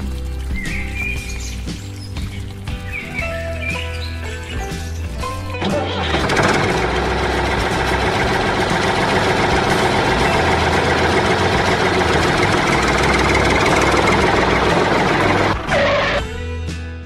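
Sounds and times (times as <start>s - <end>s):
fast rattle: 0.0s - 3.7s, 4.5s - 16.2s
miniature bulldozer running: 2.5s - 16.2s.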